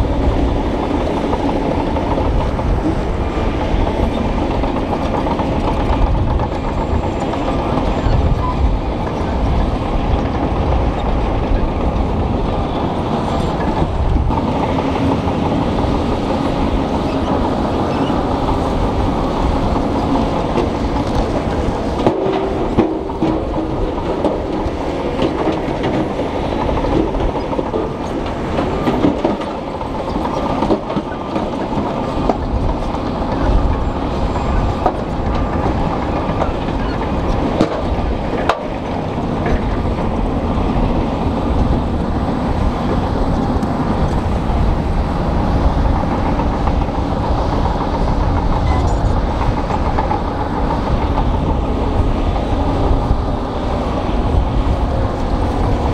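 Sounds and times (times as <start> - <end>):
bulldozer diesel engine: 0.0 - 55.9
metallic clatter of steel tracks: 0.0 - 55.9.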